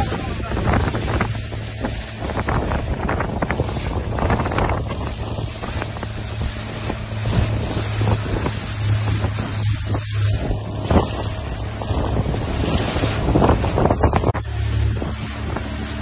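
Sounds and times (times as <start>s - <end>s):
speedboat engine drone: 0.0s - 16.0s
water rushing past hull: 0.0s - 16.0s
wind buffeting microphone: 0.0s - 16.0s.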